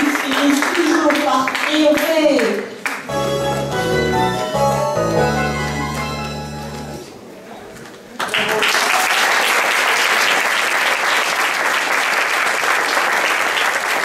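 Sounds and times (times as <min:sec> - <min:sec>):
audience applauding: 0:00.0 - 0:04.0, 0:05.0 - 0:07.0, 0:08.2 - 0:14.0.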